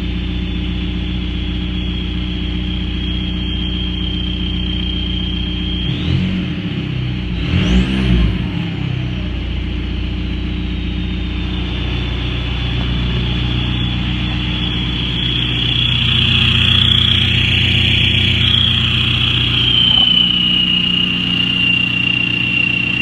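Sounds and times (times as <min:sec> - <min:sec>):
diesel engine revving and idling: 0:00.0 - 0:23.0
high turbo whistle: 0:00.0 - 0:23.0.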